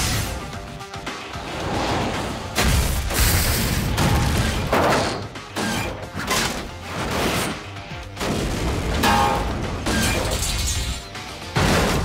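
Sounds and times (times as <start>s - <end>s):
dramatic music: 0.0s - 12.0s.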